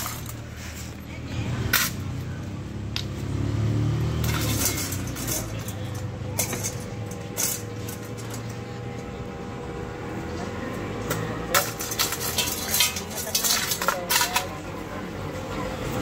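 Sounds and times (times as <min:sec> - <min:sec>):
vehicle engine passing: 0:00.0 - 0:13.4.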